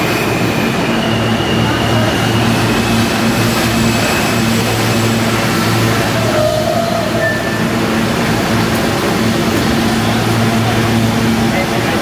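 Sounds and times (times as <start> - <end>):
subway train humming: 0.0 - 12.0.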